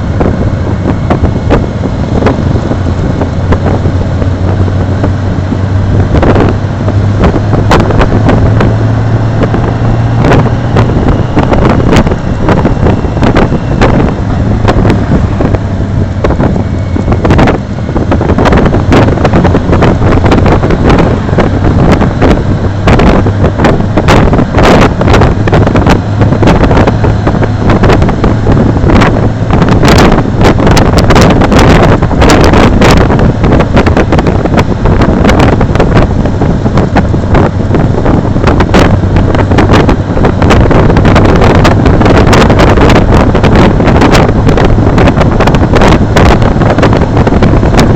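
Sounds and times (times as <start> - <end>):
motorcycle engine hum: 0.0 - 47.9
wind buffeting microphone: 0.0 - 47.9.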